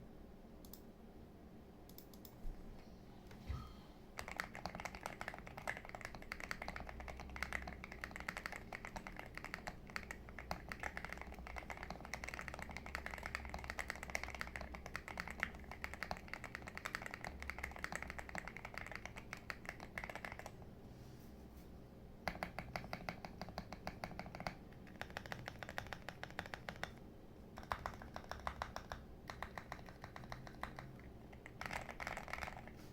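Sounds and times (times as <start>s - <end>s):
rapid typing on keyboard: 4.2s - 20.6s, 22.2s - 32.8s.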